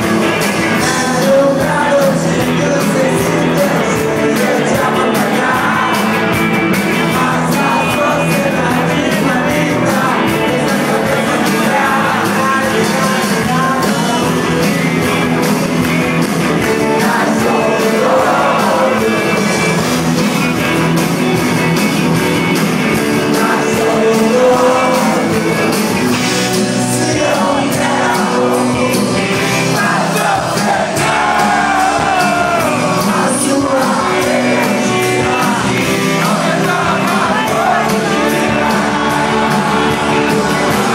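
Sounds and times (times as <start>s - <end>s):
lead vocal singing: 0.0s - 20.8s, 22.4s - 40.9s
rock band playing: 0.0s - 40.9s.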